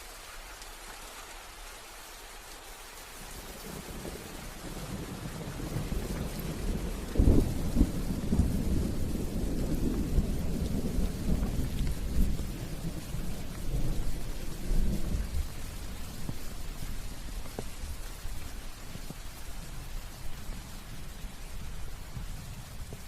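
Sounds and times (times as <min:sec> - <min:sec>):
steady rain: 0:00.0 - 0:23.0
thunder rumbling: 0:03.2 - 0:23.0.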